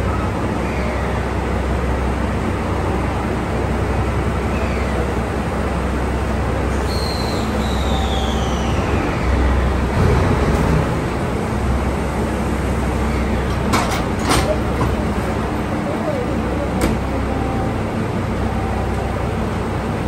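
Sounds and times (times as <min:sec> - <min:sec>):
diesel railcars running: 0:00.0 - 0:20.0.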